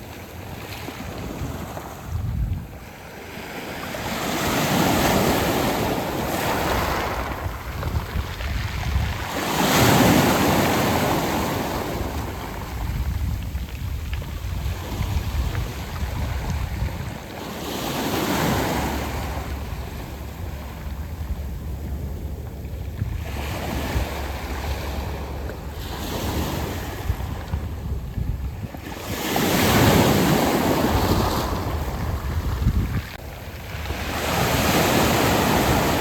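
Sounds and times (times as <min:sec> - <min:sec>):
waves washing on pebbles: 0:00.0 - 0:36.0
wind rumble on microphone: 0:00.0 - 0:36.0.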